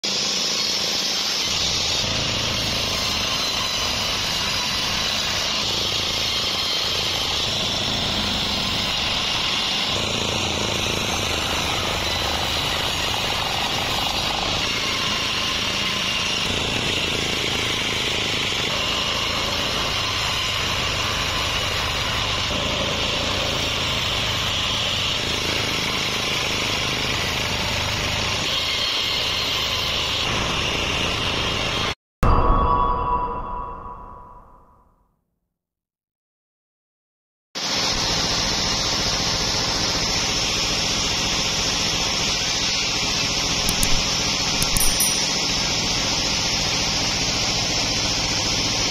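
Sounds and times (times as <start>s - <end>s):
band saw cutting logs: 0.0s - 32.0s, 37.6s - 48.9s.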